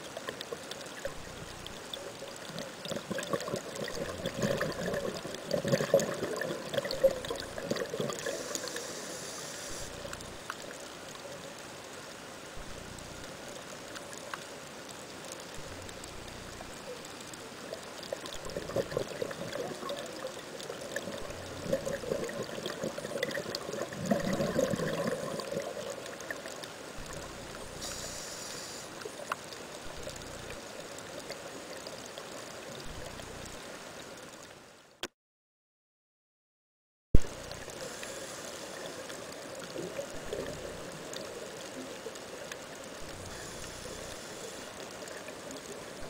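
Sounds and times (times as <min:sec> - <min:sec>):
underwater bubbles gurgling: 0:00.0 - 0:11.7, 0:15.3 - 0:34.0, 0:37.2 - 0:46.0
steady hiss: 0:00.0 - 0:34.7, 0:37.2 - 0:46.0.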